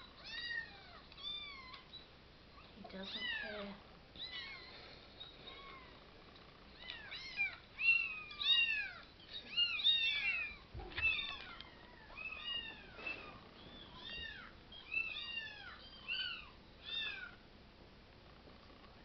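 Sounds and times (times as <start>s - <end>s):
kittens meowing: 0.0s - 6.1s, 6.7s - 17.4s.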